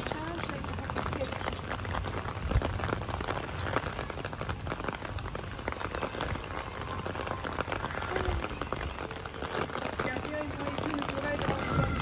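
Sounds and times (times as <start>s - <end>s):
rain on a wet flat roof: 0.0s - 12.0s.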